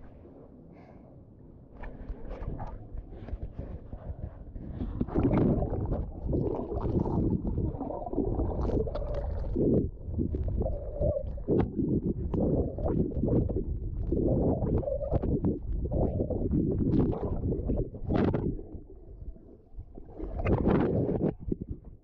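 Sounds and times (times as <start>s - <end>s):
underwater sloshing and gurgling: 0.0s - 22.0s.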